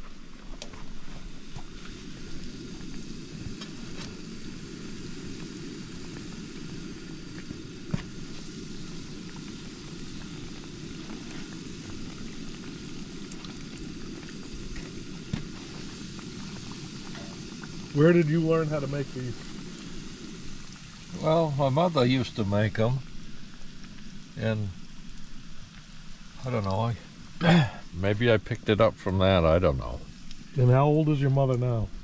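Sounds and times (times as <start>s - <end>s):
donuts sizzling in hot oil: 0.0s - 32.0s.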